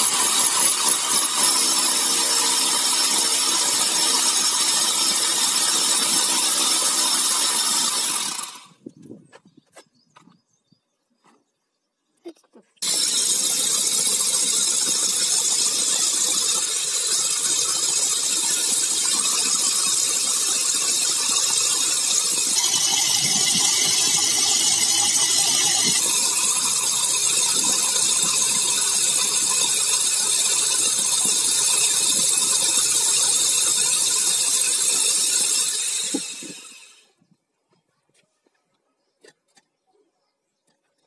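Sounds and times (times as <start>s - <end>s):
rotary hammer drilling into wall: 0.0s - 8.8s, 12.8s - 37.0s.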